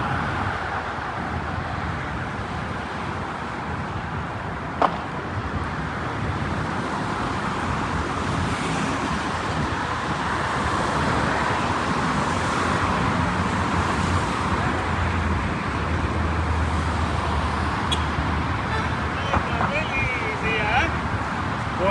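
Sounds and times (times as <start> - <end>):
road traffic noise: 0.0 - 21.9.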